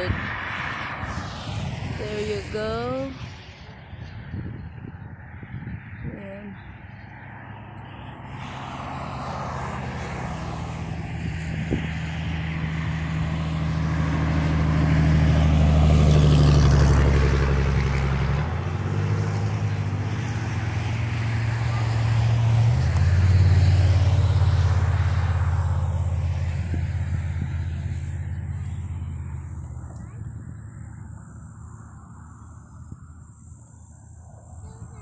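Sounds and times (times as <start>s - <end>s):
highway traffic engine drone: 0.0s - 35.0s.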